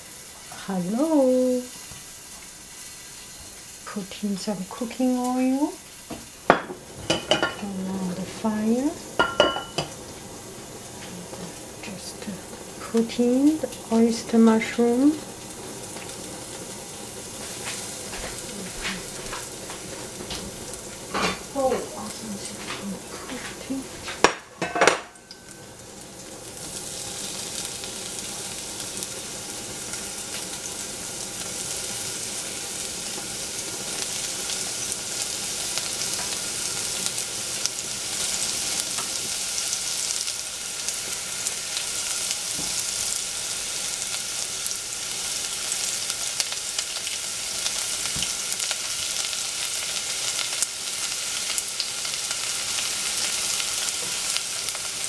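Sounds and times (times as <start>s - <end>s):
mushrooms sizzling in hot oil: 0.0s - 55.0s.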